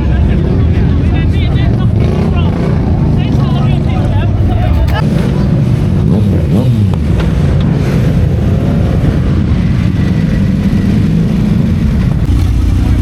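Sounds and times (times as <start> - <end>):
motorcycle engine revving: 0.0 - 13.0
motorcycle engines rumbling: 0.0 - 13.0.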